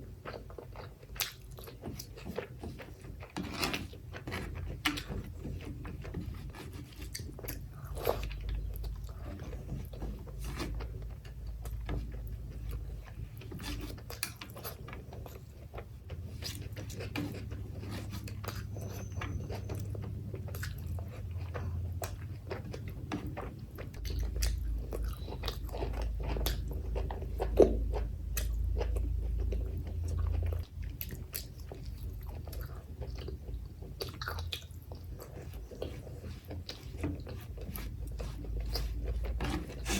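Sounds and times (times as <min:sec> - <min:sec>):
close chewing and mouth smacks: 0:00.0 - 0:39.9.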